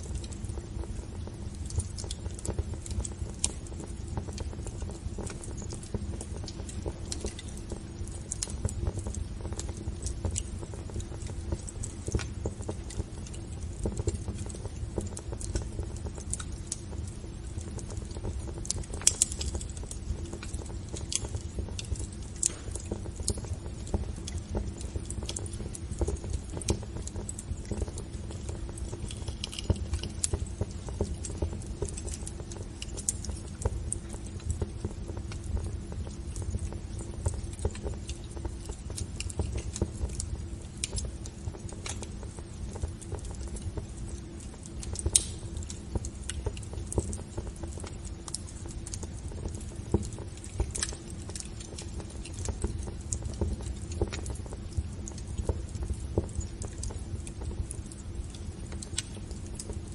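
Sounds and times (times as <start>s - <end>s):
low rumble of burning: 0.0s - 59.9s
wood fire pops and snaps: 0.0s - 59.9s.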